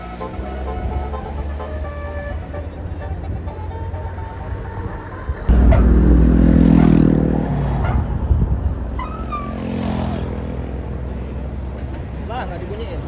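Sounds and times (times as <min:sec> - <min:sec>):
bus engine revving: 0:00.0 - 0:12.2.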